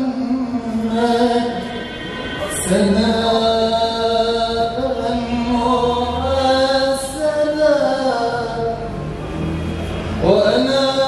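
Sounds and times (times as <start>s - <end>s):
man singing into a microphone: 0.0s - 8.9s, 10.2s - 11.0s.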